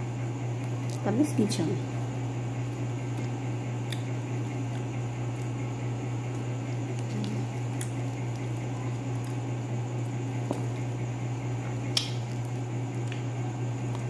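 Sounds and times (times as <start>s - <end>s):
steady low hum: 0.0s - 14.0s
fruit peeled by hand: 2.6s - 14.0s.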